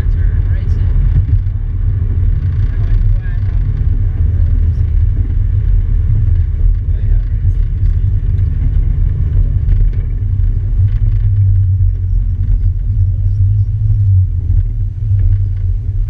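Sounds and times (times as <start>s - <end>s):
engine and road rumble in cabin: 0.0s - 16.0s.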